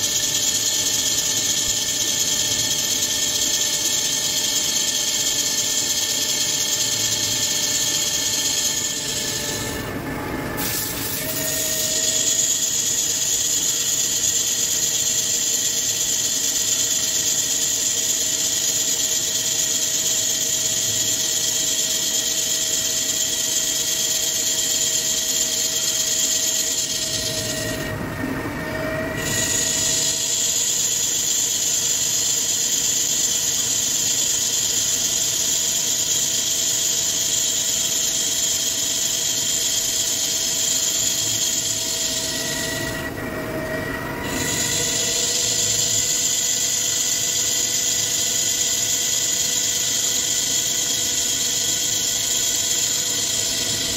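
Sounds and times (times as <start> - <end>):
lathe cutting whine: 0.0 - 53.9.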